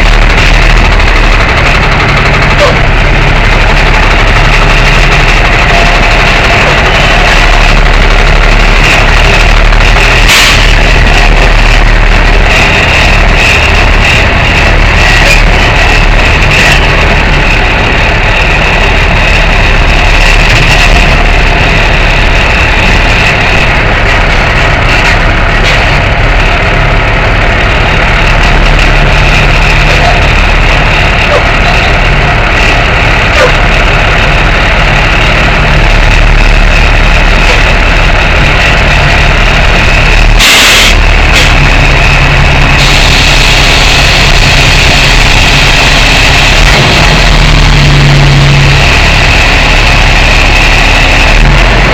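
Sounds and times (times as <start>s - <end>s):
truck engine running: 0.0s - 51.9s.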